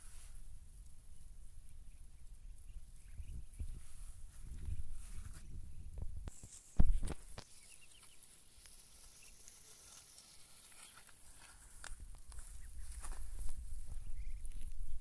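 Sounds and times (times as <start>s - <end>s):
rustling and pecking in grass: 0.0s - 15.0s
ducklings peeping: 0.6s - 15.0s.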